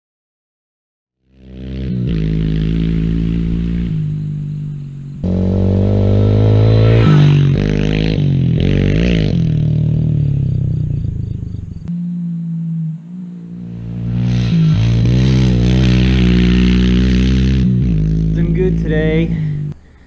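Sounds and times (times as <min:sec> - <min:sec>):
small motorbike engine revving: 0:01.2 - 0:19.8.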